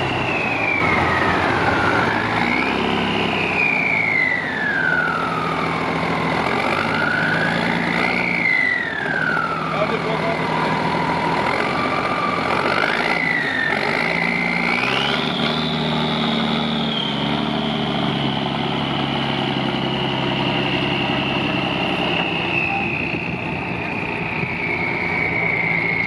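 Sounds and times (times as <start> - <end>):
truck engine revving: 0.0 - 26.0
turbocharger whistle: 0.0 - 26.0.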